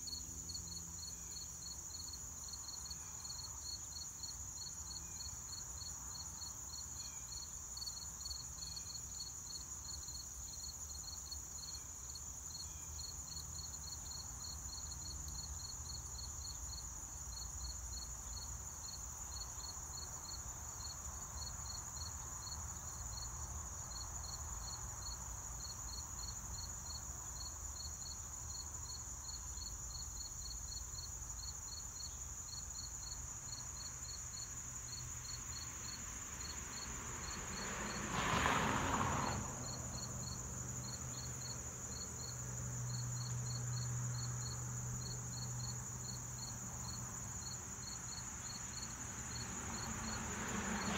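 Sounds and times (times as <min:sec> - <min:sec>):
cricket chirping: 0:00.0 - 0:50.9
insects droning: 0:00.0 - 0:50.9.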